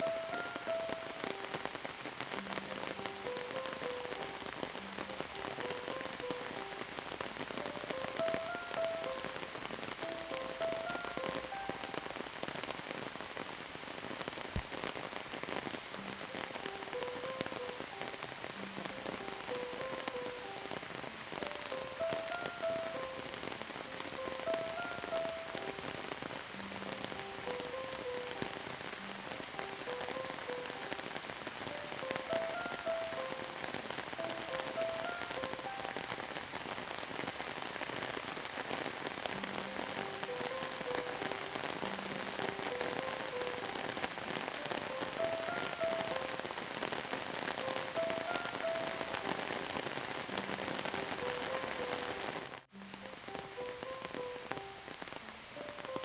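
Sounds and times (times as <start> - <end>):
soft slow melody: 0.0 - 13.2, 14.8 - 56.0
rain pattering: 0.0 - 56.0.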